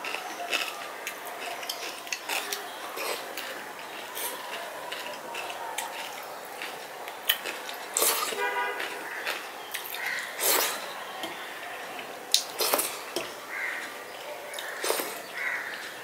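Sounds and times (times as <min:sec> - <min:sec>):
chewing sounds: 0:00.0 - 0:16.0.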